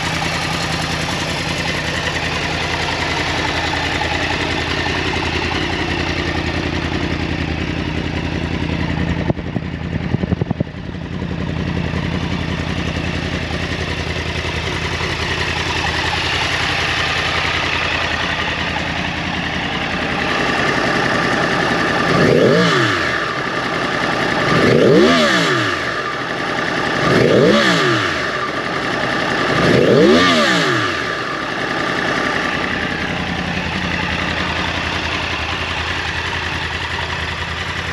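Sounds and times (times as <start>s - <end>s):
motorcycle engine idling: 0.0s - 37.9s
motorcycle engine revving: 0.0s - 37.9s.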